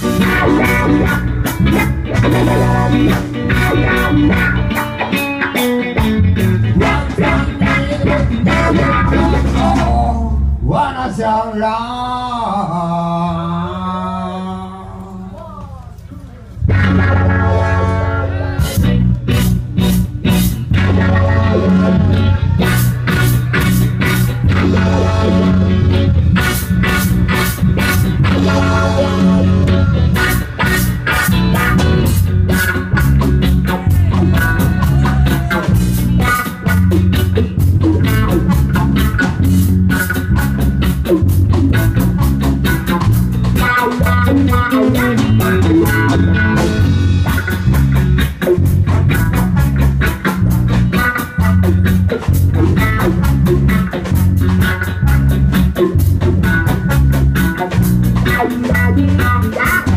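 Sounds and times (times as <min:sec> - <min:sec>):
trombone: 0:00.0 - 0:04.8, 0:06.4 - 0:10.0, 0:16.7 - 0:59.9
drum kit: 0:00.0 - 0:10.6, 0:16.6 - 0:59.9
electric guitars: 0:00.0 - 0:10.8, 0:13.1 - 0:59.9
electric bass line: 0:00.0 - 0:59.9.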